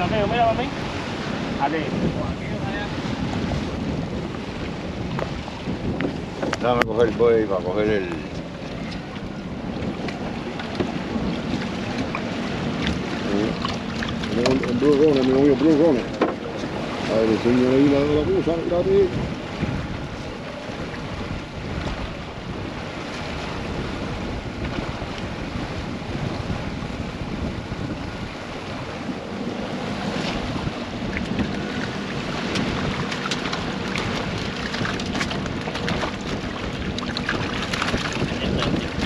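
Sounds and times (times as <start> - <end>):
sea water moving around boat: 0.0 - 39.0
wind buffeting microphone: 0.0 - 39.0.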